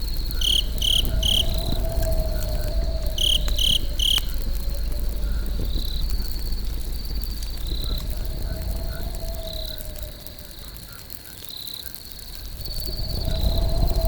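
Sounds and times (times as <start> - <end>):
campfire crackling: 0.0 - 14.0
crickets chirping: 0.0 - 14.0.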